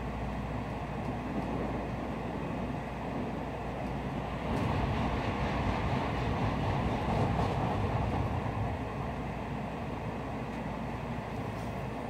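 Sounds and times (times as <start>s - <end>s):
train running at speed: 0.0s - 12.0s.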